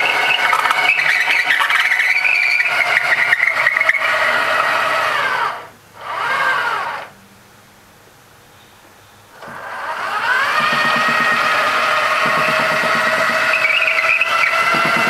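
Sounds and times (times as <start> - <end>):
turret motor whining: 0.0 - 7.2, 9.3 - 15.0.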